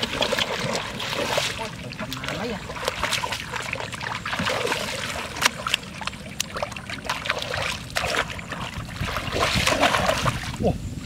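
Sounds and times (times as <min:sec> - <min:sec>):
muddy water splashing: 0:00.0 - 0:10.8.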